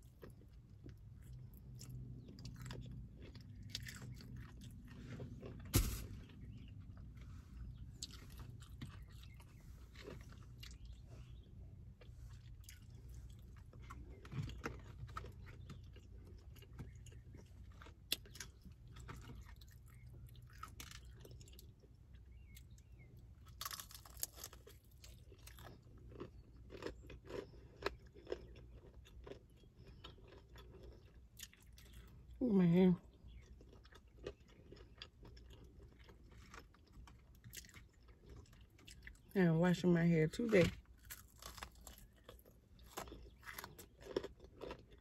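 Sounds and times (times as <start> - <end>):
crunching fried chicken: 0.0 - 45.0.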